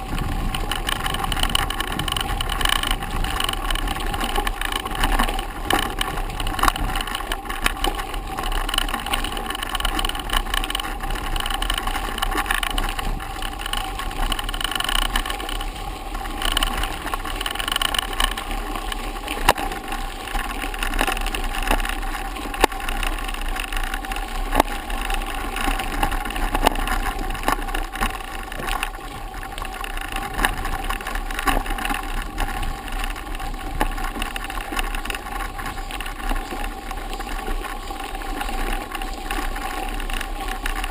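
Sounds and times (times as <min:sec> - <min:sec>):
bike tyres rumbling on gravel: 0:00.0 - 0:40.9.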